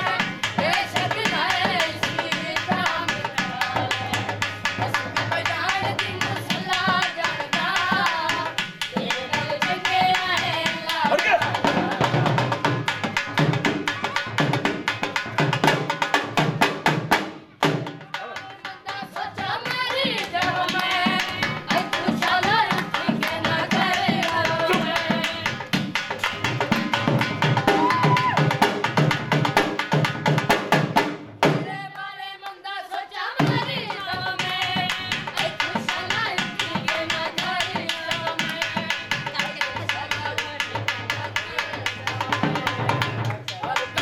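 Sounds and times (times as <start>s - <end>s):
fast dhol drumming: 0.0s - 32.0s, 33.3s - 44.0s.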